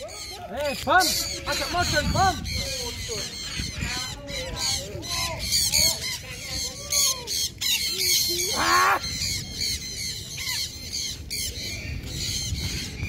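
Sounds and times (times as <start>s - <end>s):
flock of parrots screeching: 0.0s - 13.0s.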